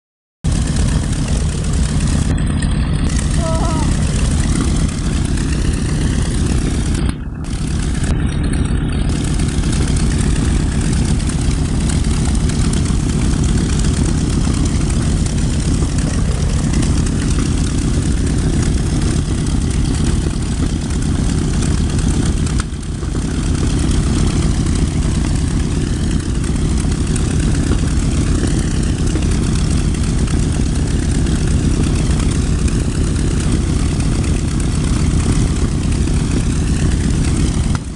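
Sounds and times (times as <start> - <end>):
propeller engines droning: 0.5 - 37.9.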